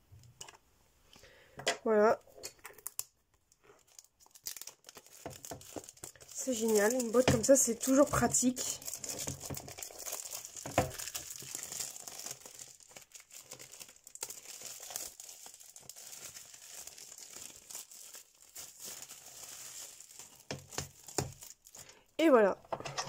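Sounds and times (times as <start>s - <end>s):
plastic shrink-wrap crinkling: 2.7s - 22.1s.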